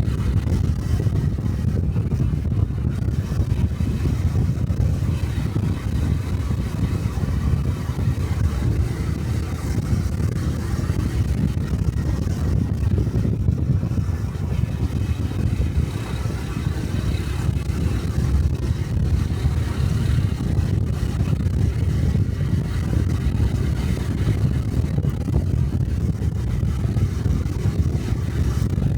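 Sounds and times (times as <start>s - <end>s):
motorcycle engine running: 0.0s - 28.9s
road noise: 0.0s - 28.9s.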